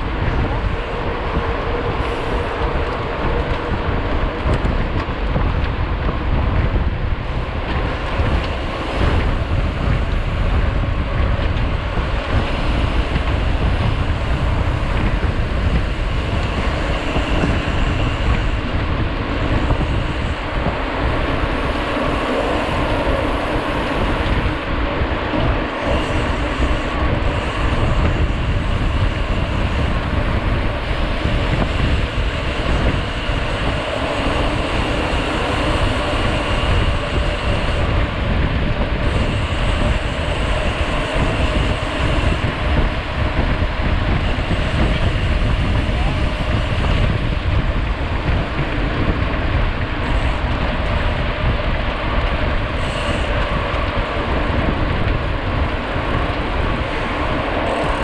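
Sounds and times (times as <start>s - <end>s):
bike tyres and rattling: 0.0s - 58.0s
wind rush on microphone: 0.0s - 58.0s.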